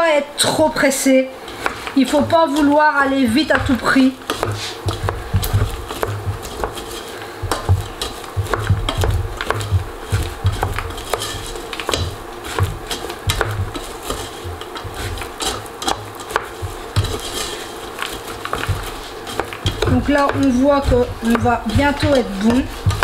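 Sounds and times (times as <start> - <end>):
nuts scraping in metal saucepan: 1.3 - 23.0.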